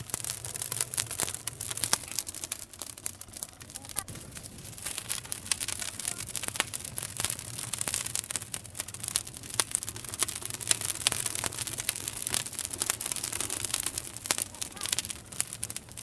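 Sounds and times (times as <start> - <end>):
campfire crackling and popping: 0.0 - 16.0
steady hiss: 0.0 - 16.0.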